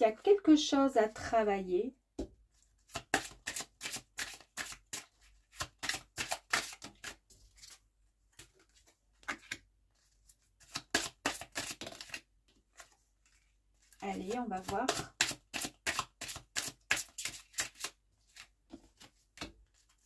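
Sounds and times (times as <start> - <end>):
cards being shuffled: 2.8 - 14.0, 14.6 - 20.0.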